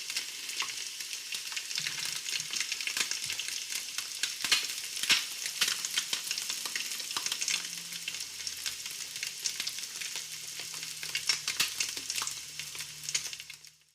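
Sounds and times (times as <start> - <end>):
food frying in hot oil: 0.0 - 13.9.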